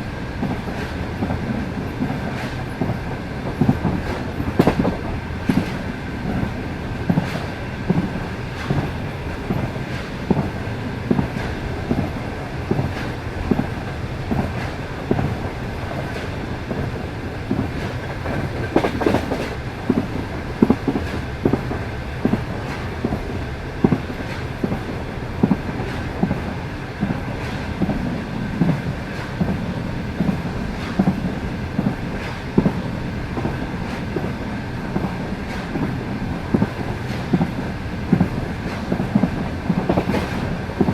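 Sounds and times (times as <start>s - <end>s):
train rolling rumble: 0.0s - 40.9s
train wheels clacking over rail joints: 0.0s - 40.9s.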